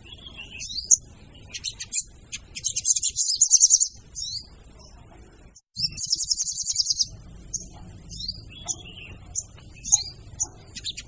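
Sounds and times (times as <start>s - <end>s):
bird chattering trills: 0.0s - 4.5s, 5.8s - 11.0s.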